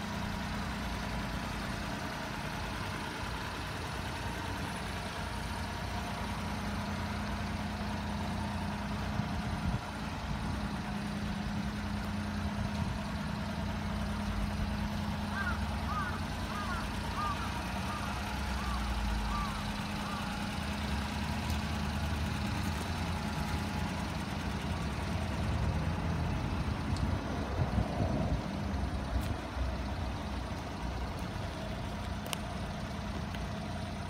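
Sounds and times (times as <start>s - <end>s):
small truck engine idling: 0.0s - 34.0s.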